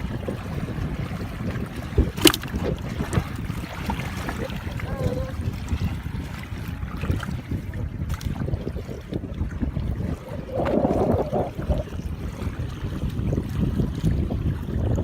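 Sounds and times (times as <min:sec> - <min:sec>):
water sloshing and splashing: 0:00.0 - 0:15.0
wind rumble on microphone: 0:00.0 - 0:15.0.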